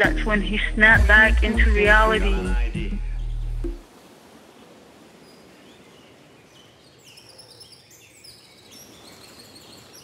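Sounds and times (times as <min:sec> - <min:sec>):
birds chirping: 0:00.0 - 0:03.8, 0:04.4 - 0:10.0
outdoor background hiss: 0:00.0 - 0:10.0.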